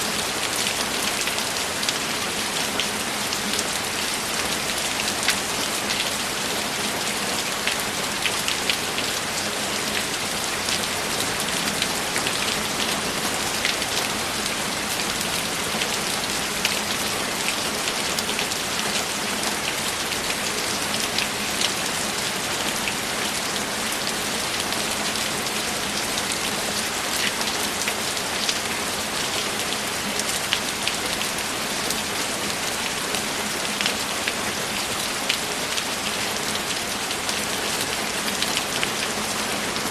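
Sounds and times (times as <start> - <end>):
raindrops pattering on surface: 0.0 - 39.9
steady rain hiss: 0.0 - 39.9.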